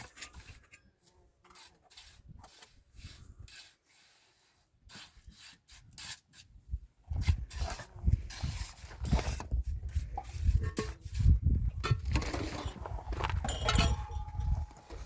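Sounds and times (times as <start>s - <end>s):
rubbing and scraping strokes: 0.0s - 13.4s.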